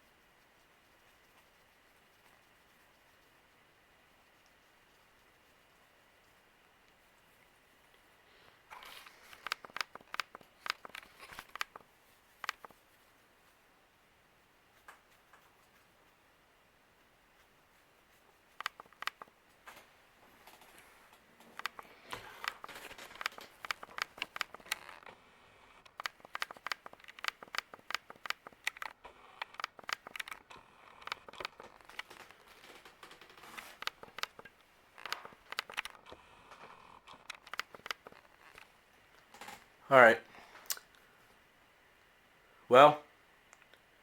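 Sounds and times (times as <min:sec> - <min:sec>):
clicking and crinkling handling noise: 0:00.0 - 0:13.6, 0:17.3 - 0:39.8.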